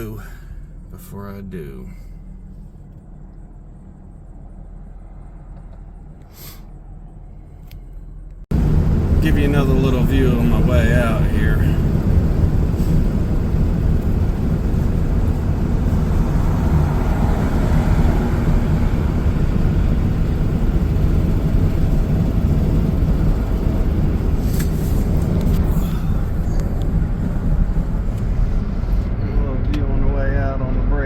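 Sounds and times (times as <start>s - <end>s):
truck road and engine rumble: 0.0s - 31.0s.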